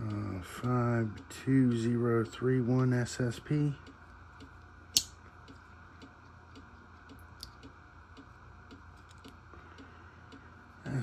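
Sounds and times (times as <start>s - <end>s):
faint regular ticking: 0.0s - 11.0s
low steady hum: 0.0s - 11.0s.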